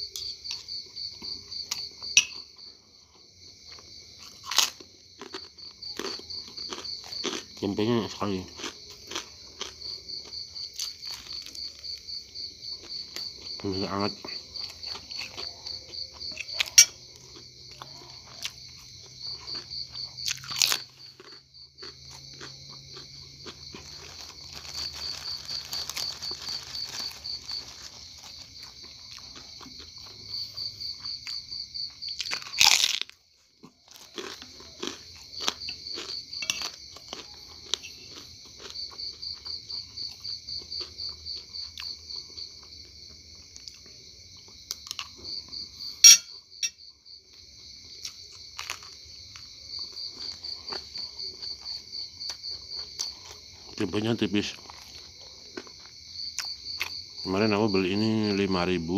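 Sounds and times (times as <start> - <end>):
biting and chewing food: 0.0 - 57.3
crickets chirping: 0.0 - 58.9.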